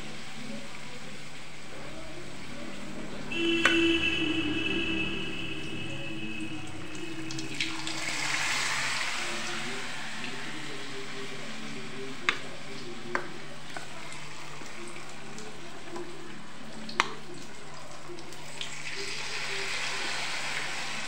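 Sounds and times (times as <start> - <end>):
food deep-frying in oil: 0.0 - 21.0.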